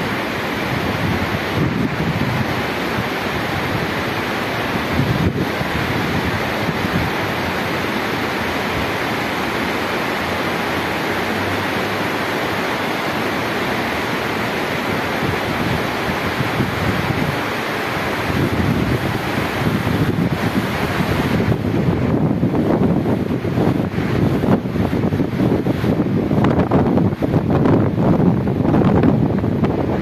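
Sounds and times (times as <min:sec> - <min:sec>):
rain falling: 0:00.0 - 0:30.0
wind buffeting microphone: 0:00.0 - 0:30.0.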